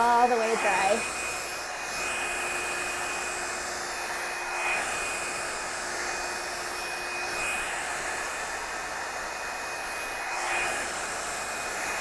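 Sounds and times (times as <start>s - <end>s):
hair dryer whooshing: 0.0s - 12.0s.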